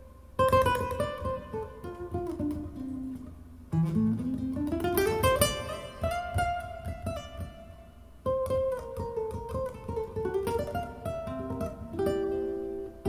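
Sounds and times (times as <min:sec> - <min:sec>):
acoustic guitar picking and strumming: 0:00.0 - 0:13.0.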